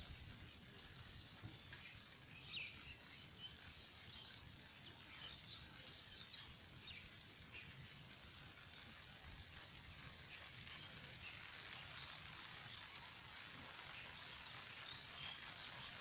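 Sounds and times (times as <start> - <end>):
faint rain hiss: 0.0 - 16.0.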